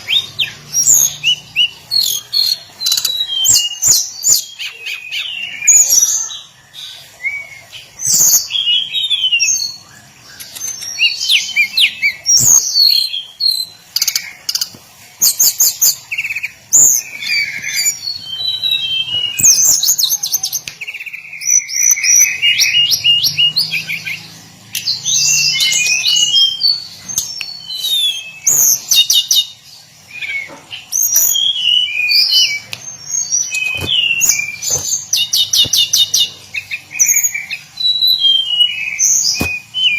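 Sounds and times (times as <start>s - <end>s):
flycatcher singing: 0.0s - 39.9s.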